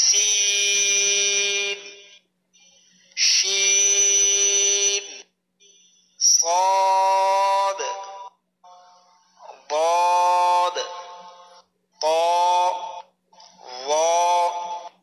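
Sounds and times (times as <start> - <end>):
person chanting syllables: 0.0 - 2.1, 3.0 - 5.3, 6.2 - 15.0.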